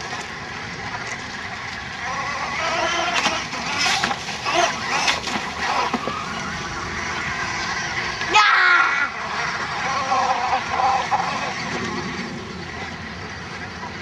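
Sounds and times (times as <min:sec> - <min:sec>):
electric motor whine: 0:00.0 - 0:13.7.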